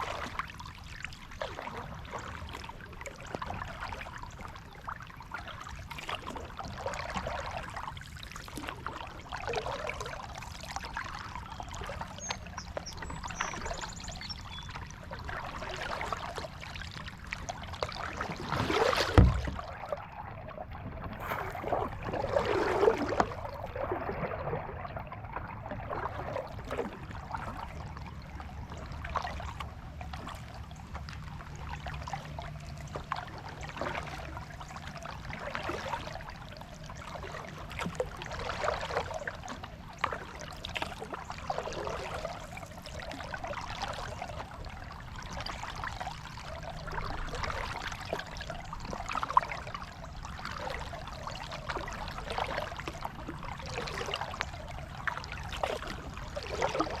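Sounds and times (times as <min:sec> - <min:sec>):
water splashing around kayak: 0:00.0 - 0:57.0.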